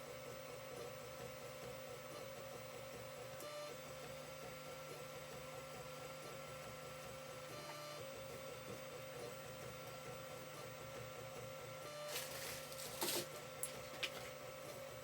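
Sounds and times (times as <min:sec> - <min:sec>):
printer motor hum and whine: 0:00.0 - 0:15.0.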